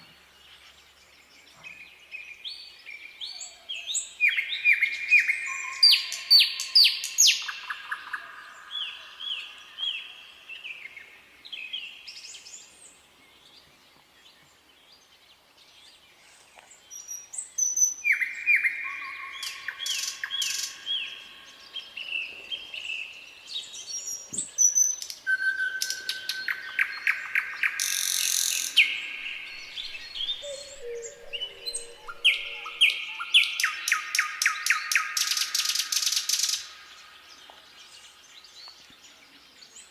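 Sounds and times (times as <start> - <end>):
nightingale singing: 0.0 - 12.7, 16.9 - 39.9.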